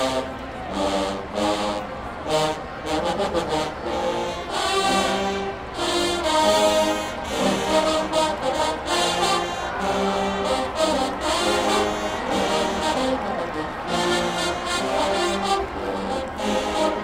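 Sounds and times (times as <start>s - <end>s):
brass holding chords: 0.0s - 17.0s.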